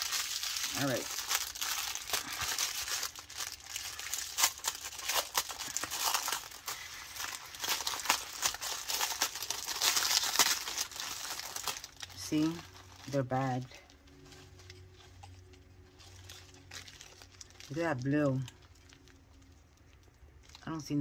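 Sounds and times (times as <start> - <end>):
small plastic bags crinkling: 0.0 - 21.0.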